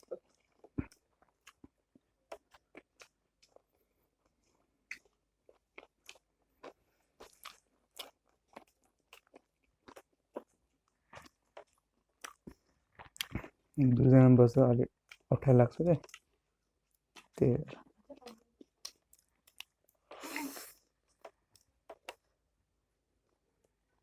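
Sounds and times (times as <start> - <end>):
person chewing crunchy food: 0.0 - 13.8, 15.0 - 15.3, 16.0 - 22.3.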